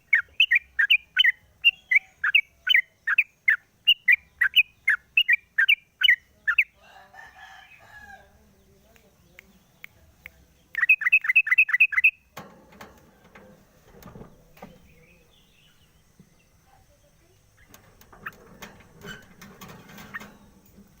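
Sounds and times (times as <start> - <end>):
bird chirping: 0.0 - 6.9, 7.6 - 12.3, 13.3 - 21.0.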